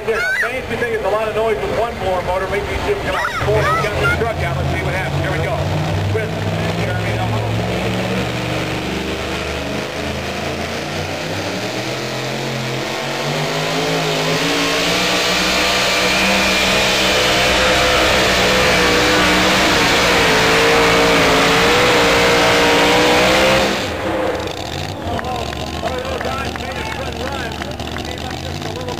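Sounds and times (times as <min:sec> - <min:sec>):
supercharged truck engine at full throttle: 0:00.0 - 0:28.9.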